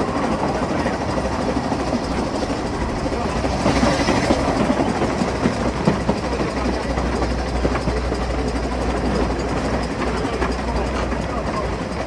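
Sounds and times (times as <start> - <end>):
steam train rumbling: 0.0 - 12.0
train clattering and knocks: 0.0 - 12.0.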